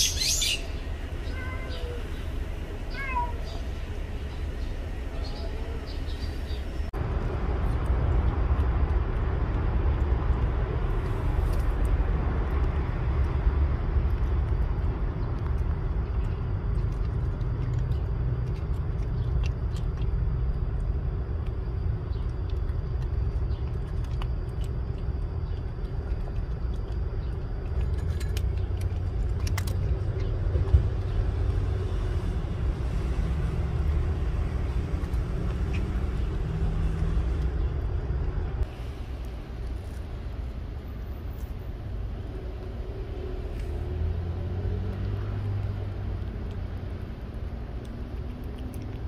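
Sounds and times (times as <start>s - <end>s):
low outdoor rumble: 0.0s - 49.0s.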